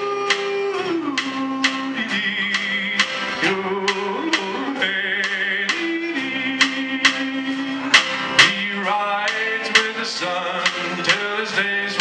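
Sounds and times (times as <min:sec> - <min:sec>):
fiddle high notes: 0:00.0 - 0:12.0
man singing: 0:00.0 - 0:12.0
steady drum beat: 0:00.0 - 0:12.0
upright bass: 0:00.0 - 0:12.0
strummed acoustic guitars: 0:01.0 - 0:12.0.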